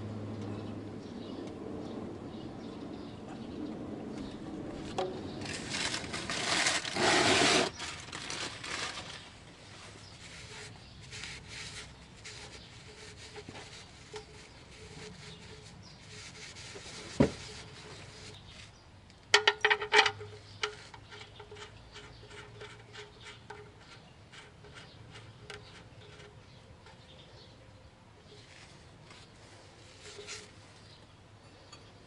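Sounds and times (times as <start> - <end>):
hands handling metal: 4.9 - 27.0, 28.2 - 32.0.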